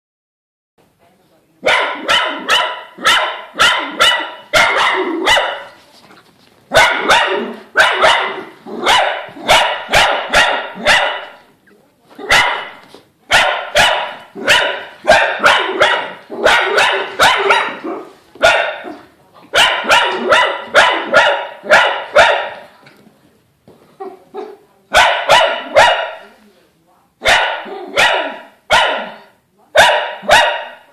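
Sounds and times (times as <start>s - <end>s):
dog barking: 1.6s - 5.8s, 6.7s - 11.5s, 12.2s - 22.7s, 24.1s - 26.3s, 27.2s - 30.9s.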